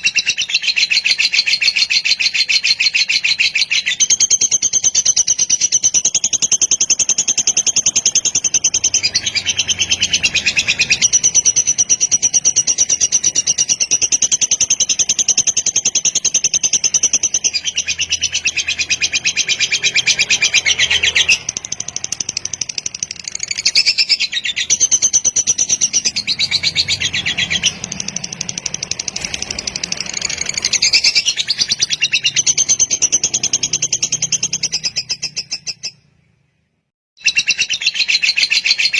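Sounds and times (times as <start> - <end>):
lovebird chattering trill: 0.0 - 36.1, 37.2 - 38.9.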